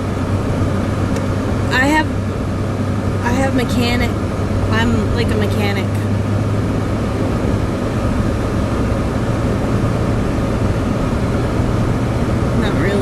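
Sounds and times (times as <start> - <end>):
in-cabin engine and road noise: 0.0 - 13.0.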